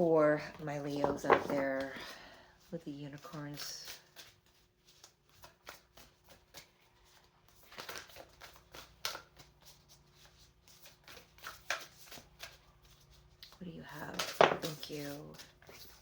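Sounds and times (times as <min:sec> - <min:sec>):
cards being shuffled by hand: 0:03.1 - 0:16.0.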